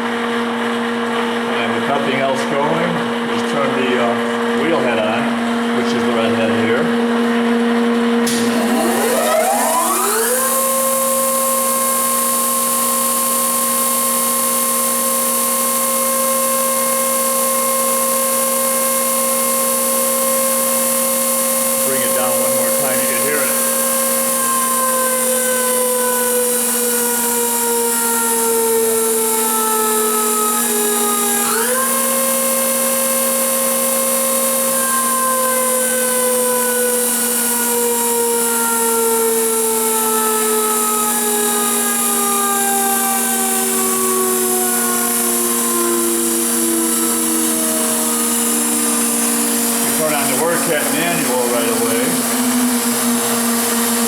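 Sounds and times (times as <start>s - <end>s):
steady machine hum: 0.0s - 54.0s
grinder spindle whining: 0.9s - 54.0s.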